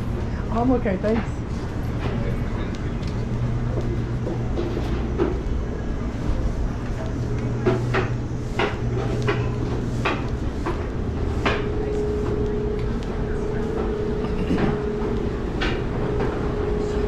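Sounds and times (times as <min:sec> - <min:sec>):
higher hum: 0:00.0 - 0:17.0
low mechanical hum: 0:00.0 - 0:17.0.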